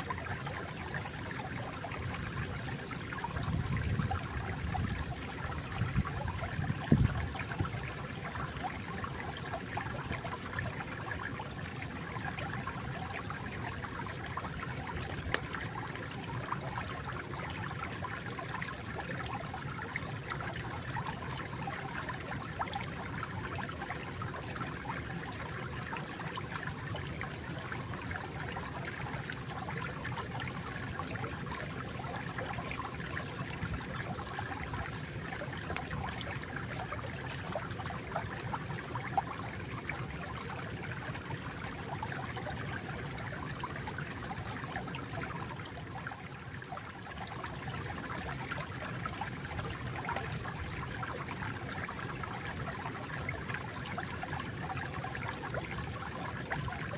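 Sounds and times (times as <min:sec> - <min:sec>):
water flowing and bubbling: 0:00.0 - 0:56.9.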